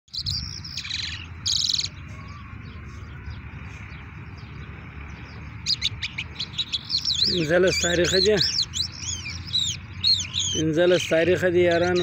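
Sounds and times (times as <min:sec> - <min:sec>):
lark singing: 0:00.1 - 0:12.0.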